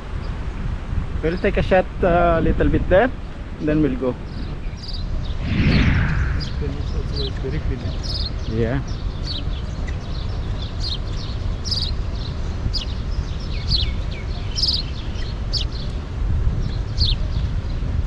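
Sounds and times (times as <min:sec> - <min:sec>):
wind rumble on microphone: 0:00.0 - 0:18.0
birds chirping: 0:01.2 - 0:17.9.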